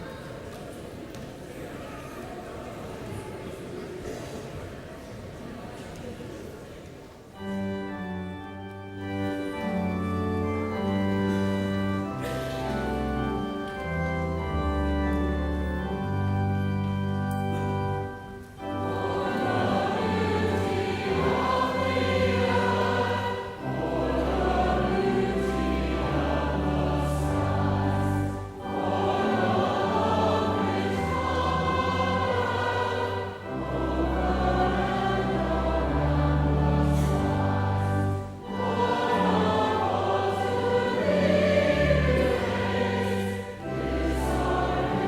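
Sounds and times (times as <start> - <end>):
church organ chords: 7.3 - 45.0
choir singing a hymn: 7.4 - 45.0.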